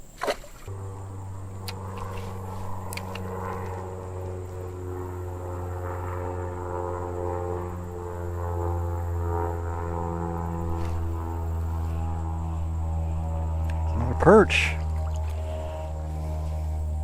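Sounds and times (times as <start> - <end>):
low drone music: 0.7 - 17.0.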